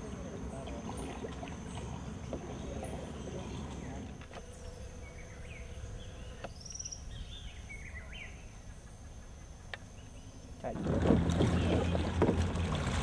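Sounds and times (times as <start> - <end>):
birds chirping and warbling: 0.0 - 10.8.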